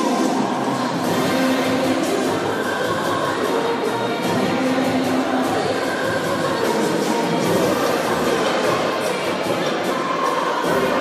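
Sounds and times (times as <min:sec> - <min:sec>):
murmur of crowd: 0:00.0 - 0:11.0
music playing: 0:00.0 - 0:11.0.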